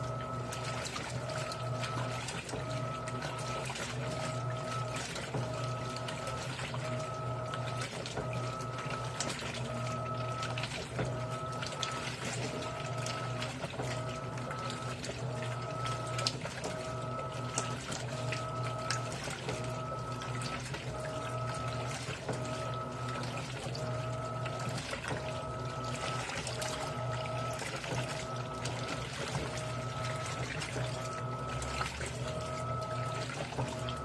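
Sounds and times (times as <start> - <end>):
washing machine motor whine: 0.0 - 34.0
water splashing and sloshing: 0.0 - 34.0.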